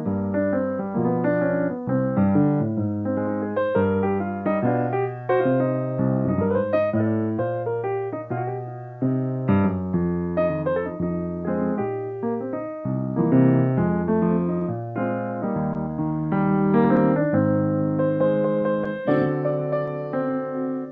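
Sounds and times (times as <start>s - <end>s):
solo piano playing: 0.0s - 20.9s.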